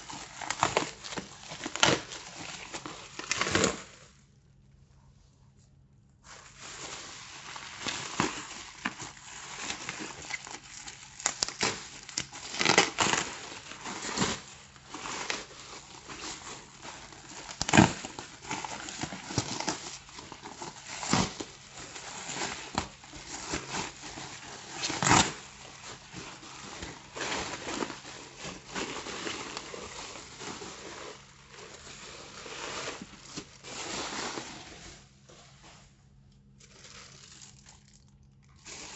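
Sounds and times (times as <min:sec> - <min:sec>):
packaging crinkling and rustling: 0:00.0 - 0:04.2, 0:06.3 - 0:38.9.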